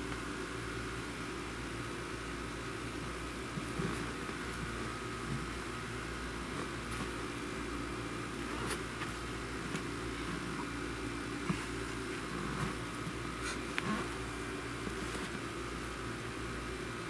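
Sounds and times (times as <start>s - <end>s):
room noise hum and hiss: 0.0s - 17.0s.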